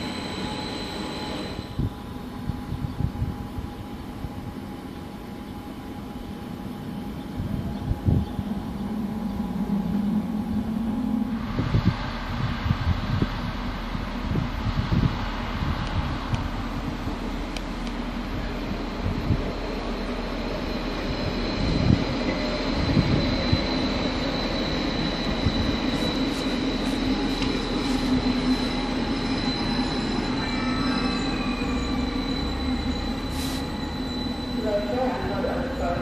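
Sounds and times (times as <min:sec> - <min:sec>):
train wheels squealing: 0:00.0 - 0:17.4, 0:18.0 - 0:36.0.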